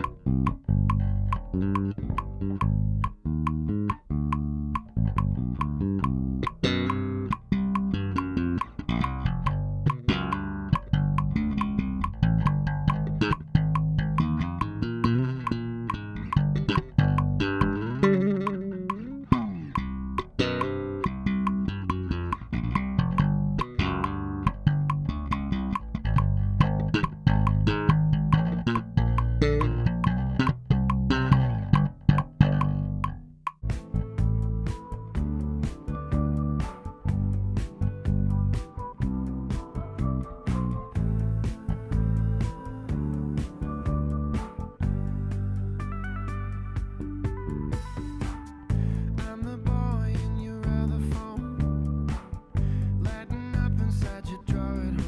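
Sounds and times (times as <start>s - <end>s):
plucked electric bass notes: 0.0s - 55.0s
steady click track: 0.0s - 55.0s.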